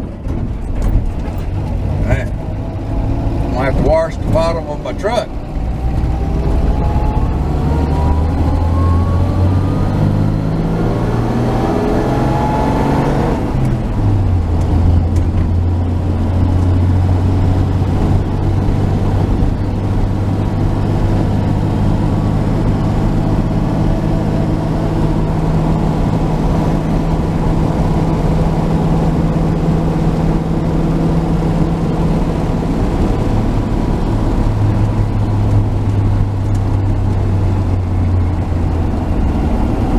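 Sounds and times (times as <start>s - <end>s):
truck engine pulling: 0.0s - 39.9s.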